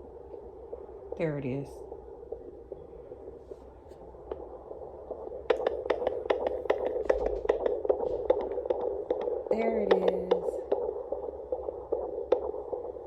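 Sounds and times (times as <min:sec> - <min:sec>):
low hiss: 0:00.0 - 0:13.0
rapid whooshing heartbeat pulse: 0:00.0 - 0:13.0.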